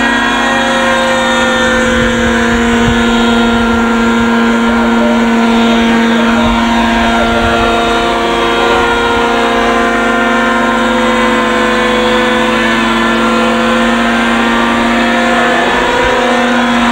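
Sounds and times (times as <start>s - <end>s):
model helicopter engine and rotors: 0.0s - 16.9s.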